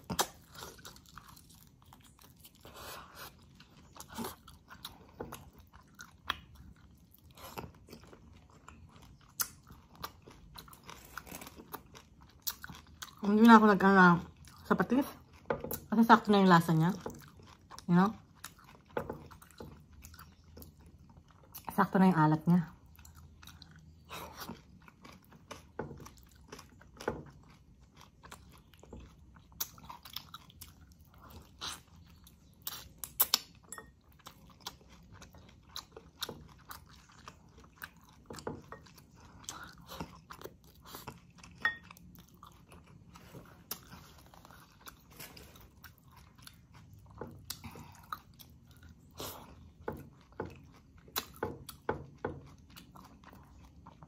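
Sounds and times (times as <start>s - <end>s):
person chewing: 0.0s - 13.6s, 16.7s - 21.7s, 22.7s - 54.0s.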